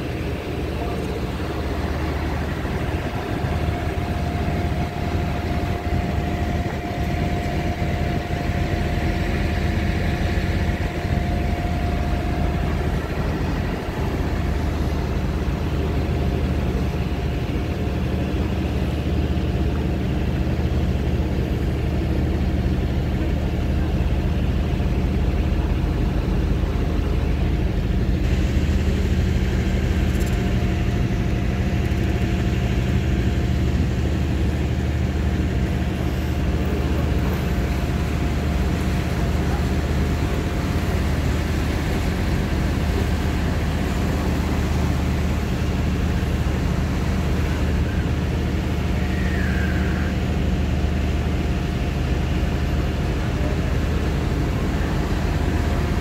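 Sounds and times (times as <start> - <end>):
ferry engine drone: 0.0 - 56.0
thin steady whine: 0.0 - 56.0.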